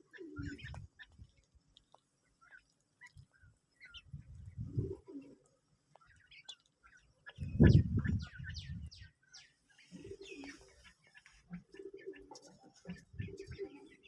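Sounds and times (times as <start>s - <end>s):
quails chirping: 0.0s - 14.0s.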